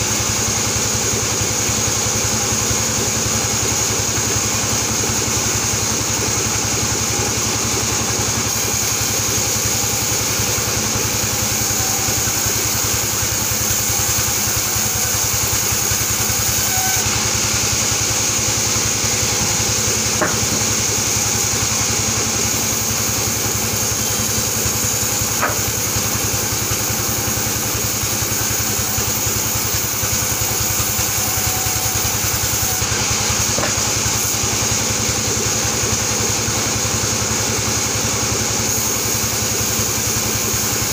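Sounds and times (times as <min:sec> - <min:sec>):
band saw running: 0:00.0 - 0:40.9.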